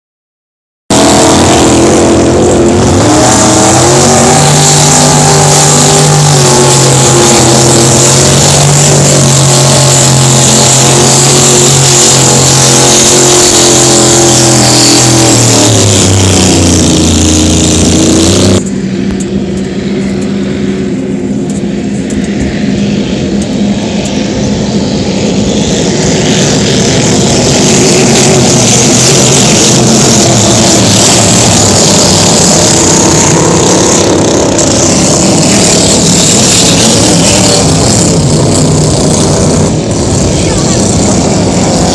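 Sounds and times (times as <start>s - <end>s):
racing boat engines: 0.9s - 41.9s.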